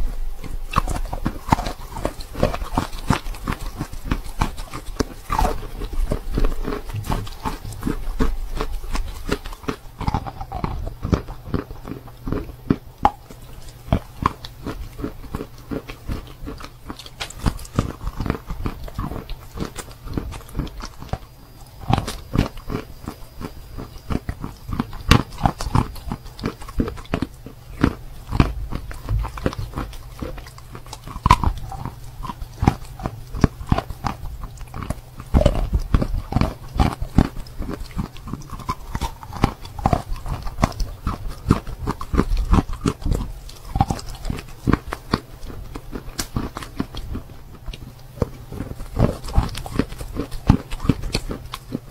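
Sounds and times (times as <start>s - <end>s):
chewing crunchy chalk: 0.0s - 51.9s.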